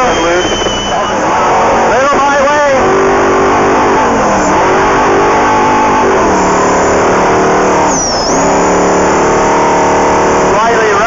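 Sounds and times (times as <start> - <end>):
engine at high revs: 0.0 - 11.0
road and wind noise: 0.0 - 11.0.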